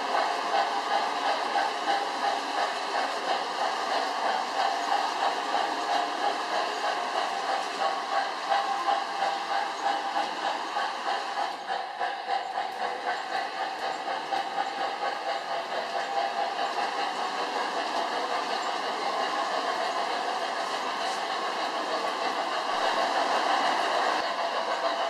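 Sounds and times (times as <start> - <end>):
model trains rumbling on track: 0.0 - 25.0.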